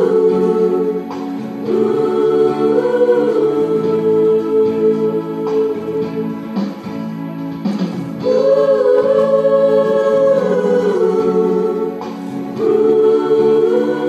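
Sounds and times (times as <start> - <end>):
choir singing: 0.0 - 7.1, 8.2 - 14.0
instrumental accompaniment: 0.0 - 14.0.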